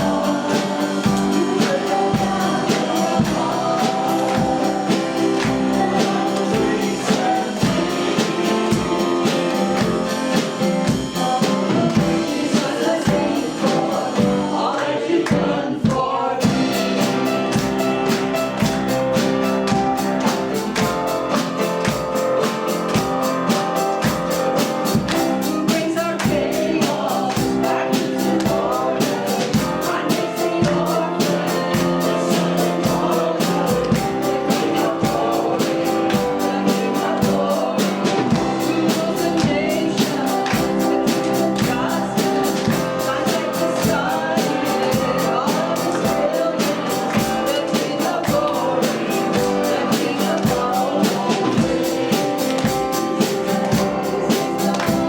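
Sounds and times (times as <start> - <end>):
band with guitar and drums: 0.0 - 55.0
people singing: 0.0 - 55.0.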